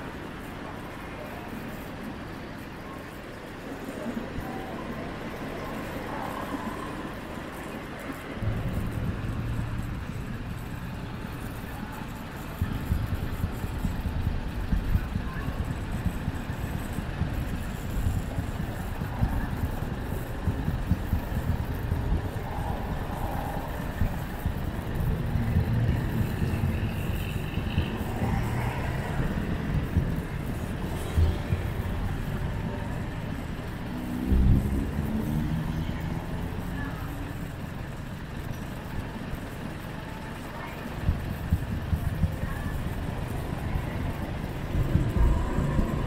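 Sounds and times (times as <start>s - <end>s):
engine and road noise rumble: 0.0s - 46.0s.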